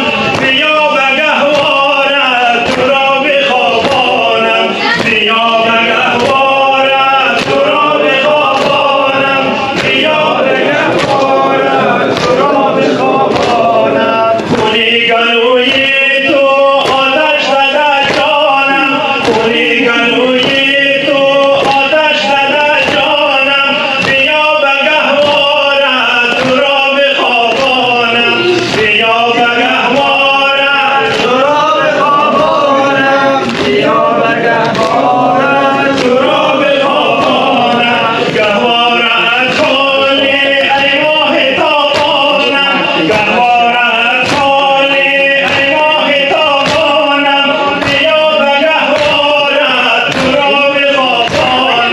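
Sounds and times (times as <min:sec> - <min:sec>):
men chanting a lament: 0:00.0 - 0:51.9.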